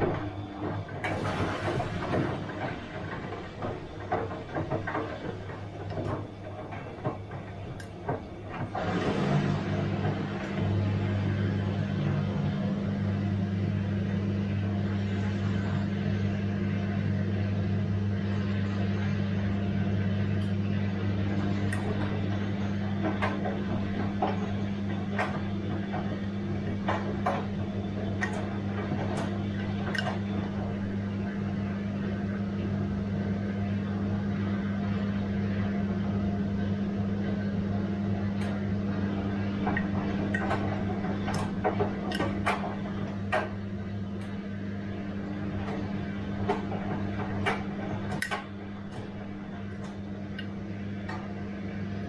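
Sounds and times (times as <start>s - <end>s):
washing machine humming: 0.0s - 52.0s.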